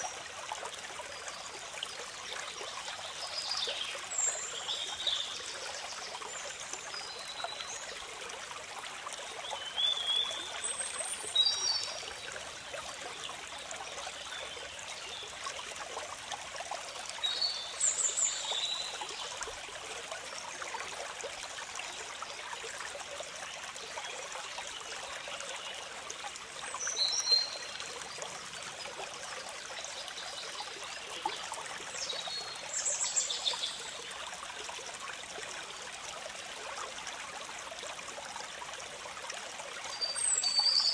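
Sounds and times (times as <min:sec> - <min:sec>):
rocky stream trickling: 0:00.0 - 0:40.9.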